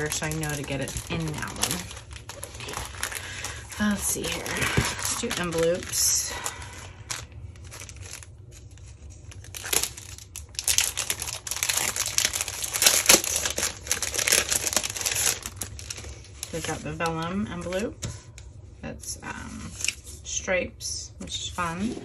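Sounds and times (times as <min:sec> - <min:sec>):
packaging crinkling and rustling: 0:00.0 - 0:18.5, 0:19.6 - 0:20.2.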